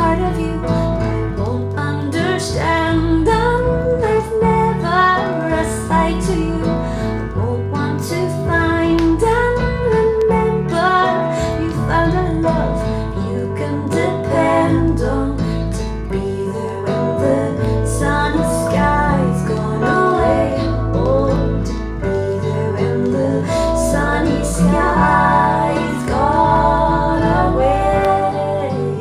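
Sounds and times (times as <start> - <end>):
bass line: 0.0 - 29.0
guitar-led instrumental music: 0.0 - 29.0
sung melody: 0.0 - 29.0.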